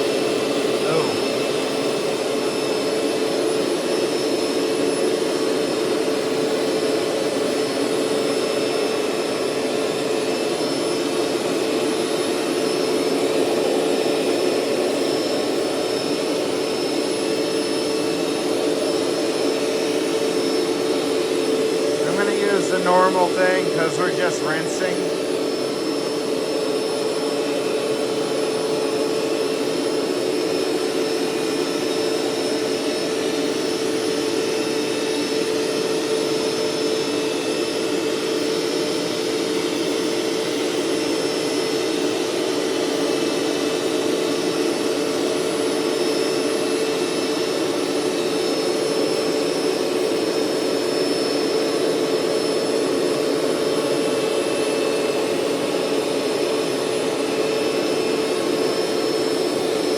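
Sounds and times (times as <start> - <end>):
carpet cleaner motor whining: 0.0 - 59.9.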